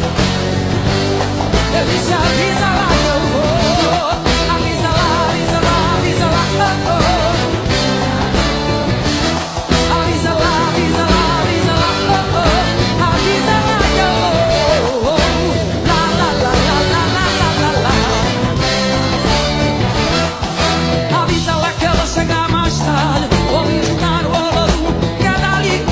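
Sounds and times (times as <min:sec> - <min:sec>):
live band playing: 0:00.0 - 0:25.9
person singing: 0:01.4 - 0:25.9.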